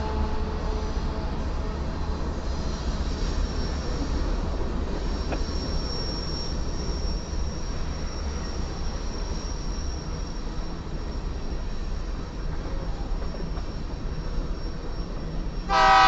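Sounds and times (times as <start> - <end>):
high wheel squeal: 0.0 - 16.0
steel wheels rumbling on rail: 0.0 - 16.0.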